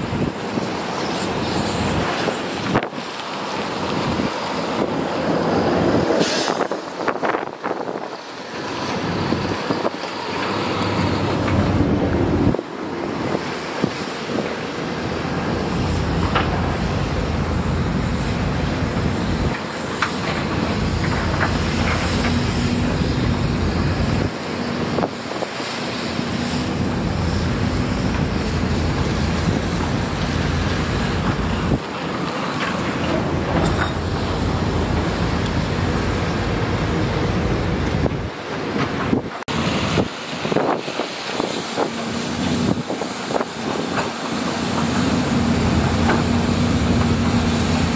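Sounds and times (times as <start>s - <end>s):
heavy machine diesel engine: 0.0s - 47.9s.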